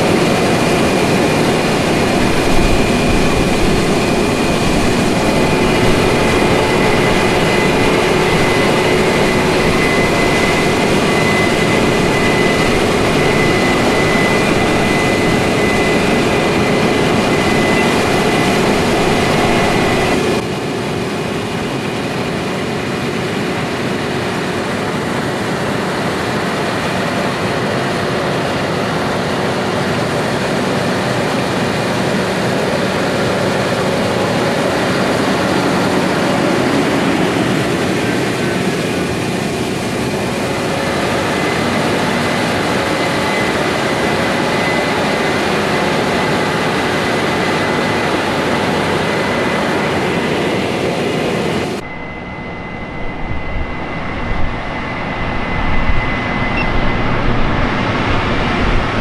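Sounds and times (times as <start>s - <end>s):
heavy diesel machinery running: 0.0s - 59.0s
high mechanical whine: 0.0s - 59.0s.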